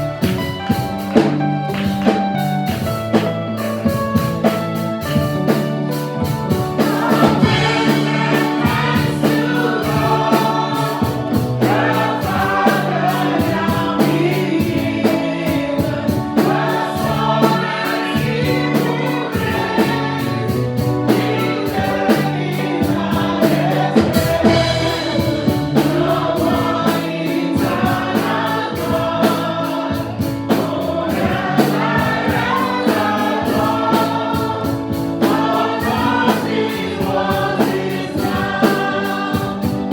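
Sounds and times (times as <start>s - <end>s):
band with bass and drums: 0.0s - 39.9s
choir singing: 6.5s - 39.9s.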